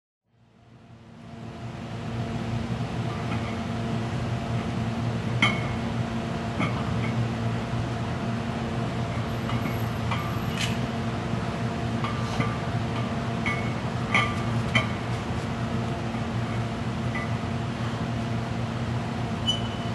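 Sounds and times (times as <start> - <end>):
mechanical hum: 0.3 - 19.9.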